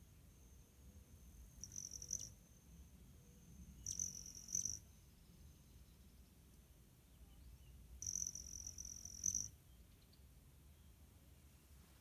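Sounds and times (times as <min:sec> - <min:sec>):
faint high whine: 0:00.0 - 0:09.7.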